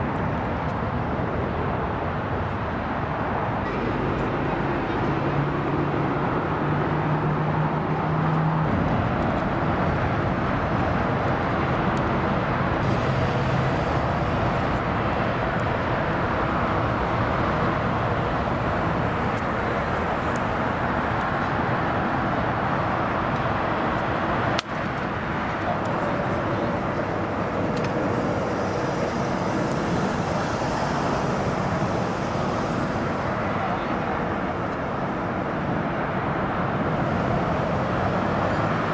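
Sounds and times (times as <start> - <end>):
jet engines roaring: 0.0 - 38.9.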